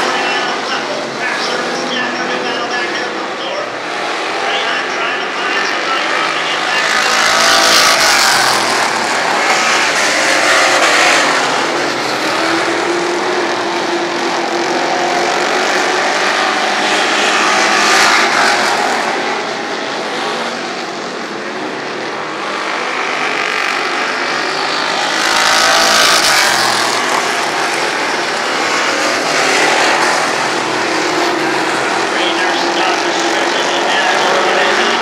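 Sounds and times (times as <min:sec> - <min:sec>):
race car engines at full throttle: 0:00.0 - 0:35.0.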